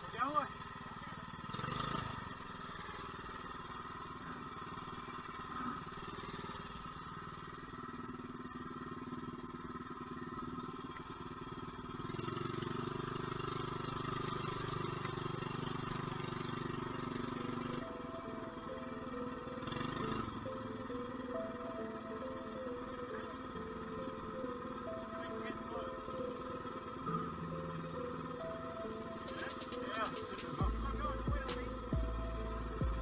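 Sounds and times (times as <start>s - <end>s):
mini bike engine running: 0.0s - 33.0s.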